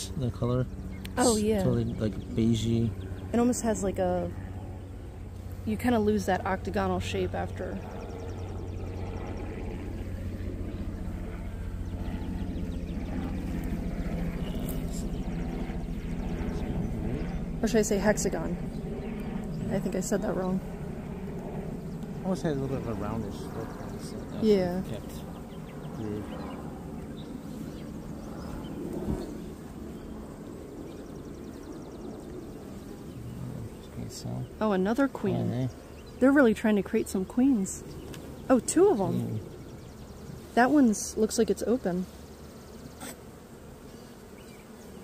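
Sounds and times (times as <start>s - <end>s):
bees buzzing: 0.3s - 45.0s.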